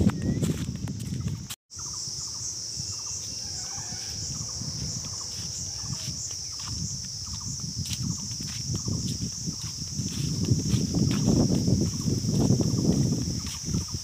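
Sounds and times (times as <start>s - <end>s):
footsteps on dry leaves: 0.0s - 1.9s, 2.8s - 14.0s
insects droning: 0.0s - 14.0s.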